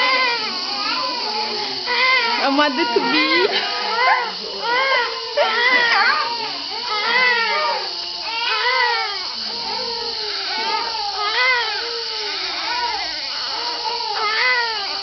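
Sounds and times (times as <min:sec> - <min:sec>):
baby crying: 0:00.0 - 0:15.0.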